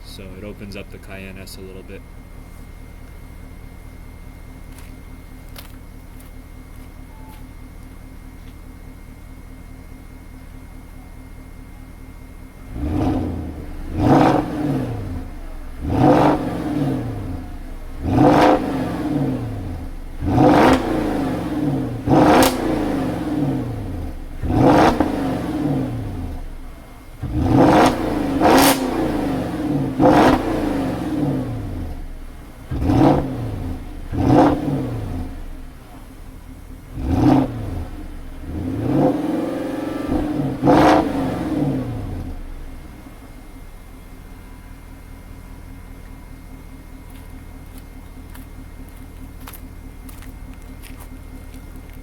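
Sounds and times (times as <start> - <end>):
car engine idling: 0.0 - 52.0
car engine revving: 7.7 - 52.0.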